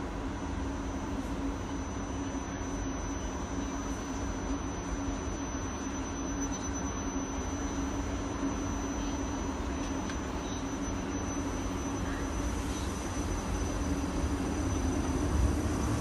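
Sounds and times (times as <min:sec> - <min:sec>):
train equipment humming: 0:00.0 - 0:16.0.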